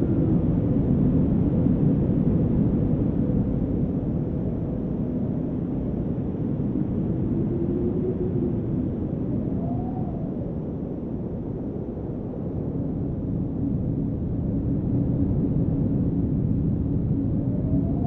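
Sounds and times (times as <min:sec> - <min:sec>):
low wind blowing: 0:00.0 - 0:18.0.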